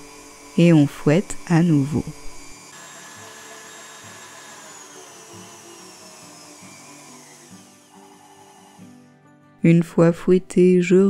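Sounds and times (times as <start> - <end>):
stand mixer whisking: 0.0 - 8.9.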